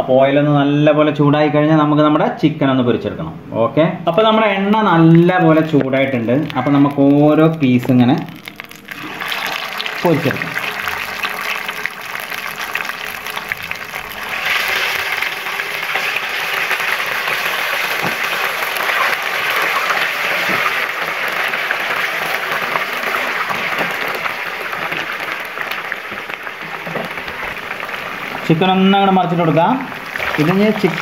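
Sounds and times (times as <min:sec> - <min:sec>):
chicken sizzling in hot oil: 0:04.9 - 0:31.0.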